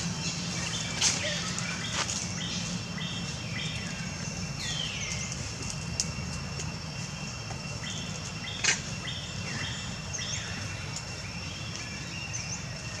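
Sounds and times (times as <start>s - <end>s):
birds chirping and whistling: 0.0s - 5.6s, 7.8s - 13.0s
high insect drone: 0.0s - 13.0s.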